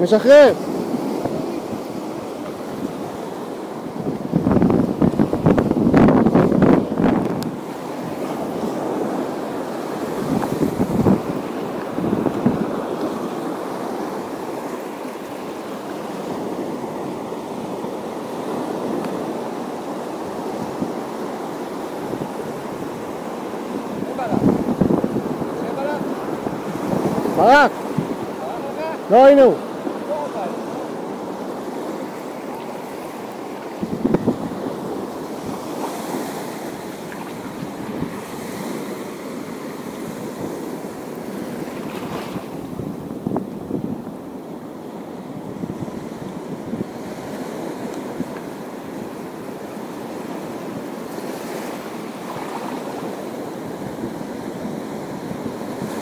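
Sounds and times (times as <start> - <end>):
waves washing against shore: 0.0 - 56.0
wind buffeting microphone: 0.6 - 14.9, 15.5 - 32.2, 33.6 - 39.0, 39.8 - 56.0.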